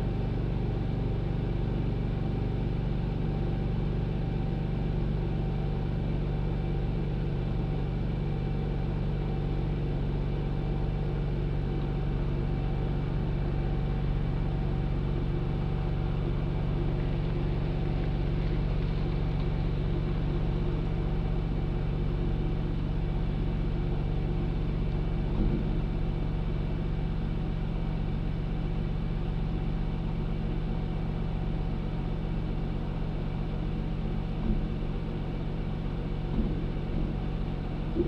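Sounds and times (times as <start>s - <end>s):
engine idling drone: 0.0s - 38.0s.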